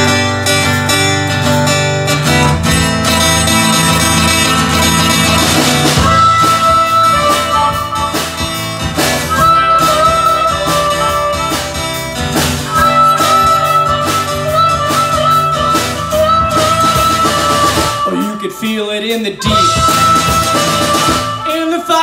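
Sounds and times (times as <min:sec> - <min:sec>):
acoustic guitar strumming: 0:00.0 - 0:22.0
drum kit beat: 0:00.0 - 0:22.0
electric bass: 0:00.0 - 0:22.0
harmonica wailing: 0:02.2 - 0:22.0.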